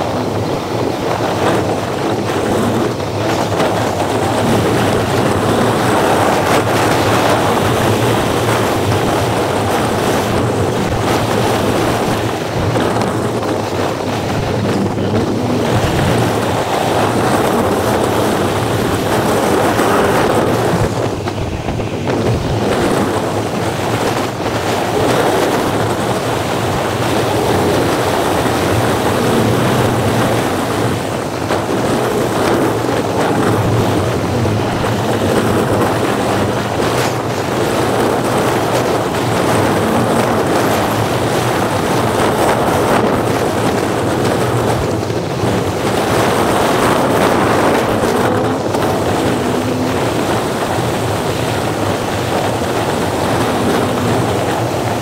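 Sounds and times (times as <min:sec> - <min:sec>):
car road noise: 0:00.0 - 0:55.0
wind rushing over microphone: 0:00.0 - 0:55.0.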